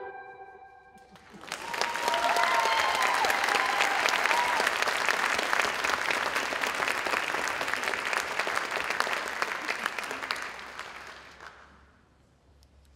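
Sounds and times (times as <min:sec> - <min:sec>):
audience applauding: 0:01.0 - 0:11.8.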